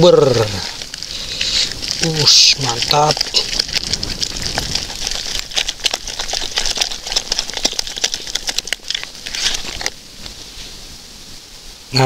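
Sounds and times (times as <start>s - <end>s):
hands squelching wet dough: 0.0s - 10.0s.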